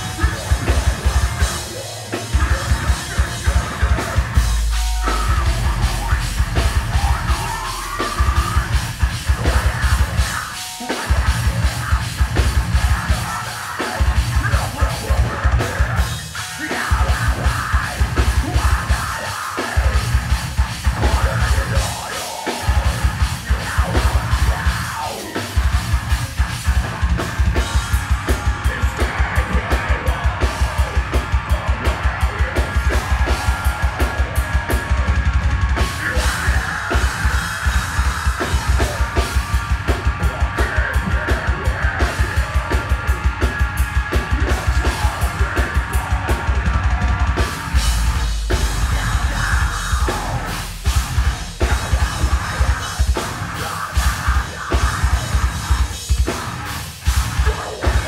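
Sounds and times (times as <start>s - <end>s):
drum kit: 0.0s - 58.0s
heavy guitars: 0.0s - 58.0s.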